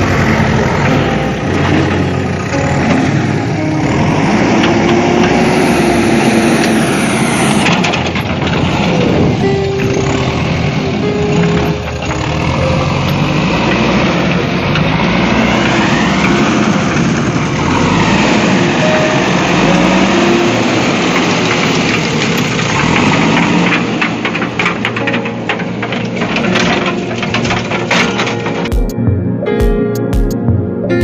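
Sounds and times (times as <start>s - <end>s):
engine running steadily: 0.0s - 29.2s.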